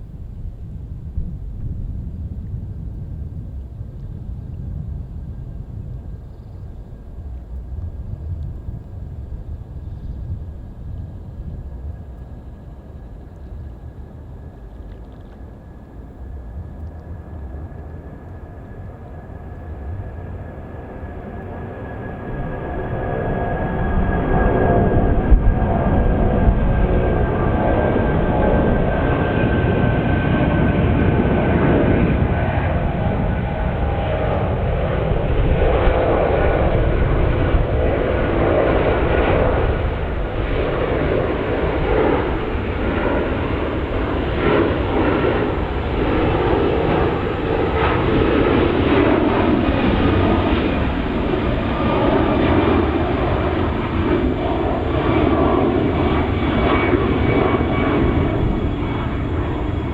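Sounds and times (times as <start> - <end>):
jet airliner taking off: 0.0 - 59.9.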